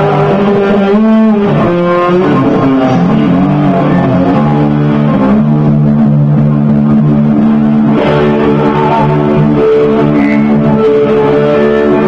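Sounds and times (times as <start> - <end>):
live band with electric guitar: 0.0 - 12.0.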